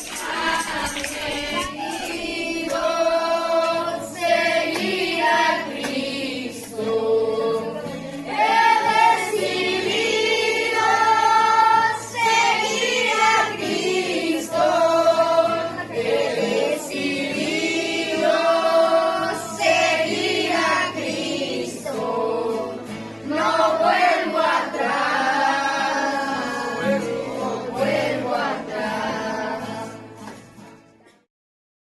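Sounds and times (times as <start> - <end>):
group singing a worship song: 0.0 - 30.3.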